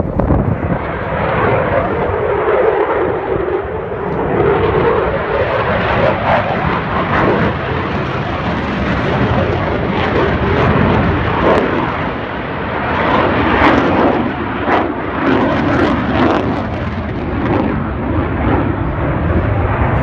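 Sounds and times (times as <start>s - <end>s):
jet flying overhead: 0.0s - 20.0s.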